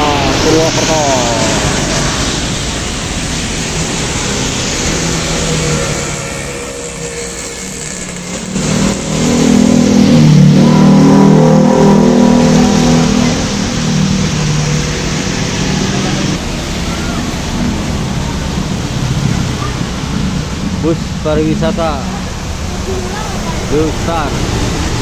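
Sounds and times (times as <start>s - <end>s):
motorcycles riding: 0.0s - 25.0s
truck diesel engine passing: 0.0s - 25.0s
tyres hissing on wet road: 0.0s - 25.0s.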